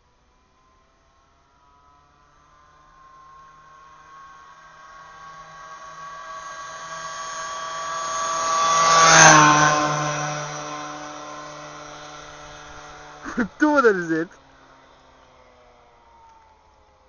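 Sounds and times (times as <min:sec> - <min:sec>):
moped riding past: 0:00.0 - 0:17.0.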